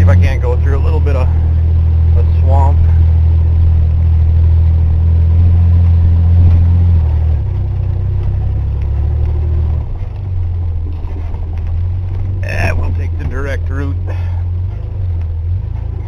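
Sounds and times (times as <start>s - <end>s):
pickup truck engine under load: 0.0s - 16.0s.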